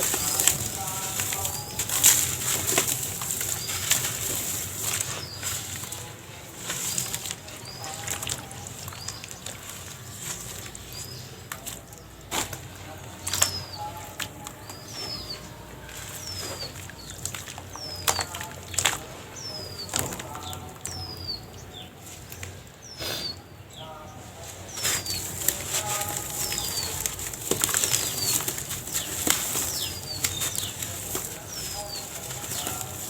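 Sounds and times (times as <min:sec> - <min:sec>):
sand-cement shapes cracking: 0:00.0 - 0:21.4, 0:24.6 - 0:33.0
falling sand pattering: 0:00.0 - 0:22.6, 0:24.3 - 0:33.0.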